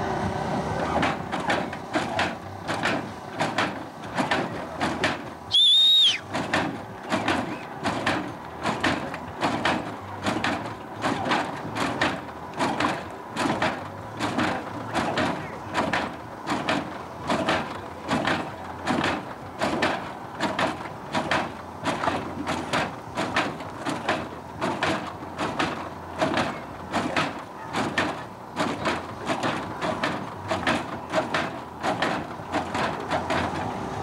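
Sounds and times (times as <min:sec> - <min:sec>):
hydraulic suspension clacks and slams: 0:00.7 - 0:34.0.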